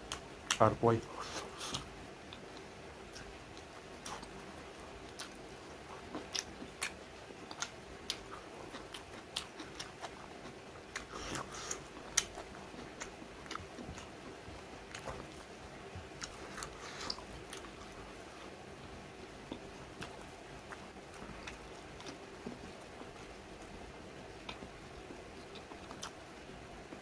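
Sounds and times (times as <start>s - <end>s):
close-miked chewing: 0.0s - 23.8s, 24.4s - 27.0s.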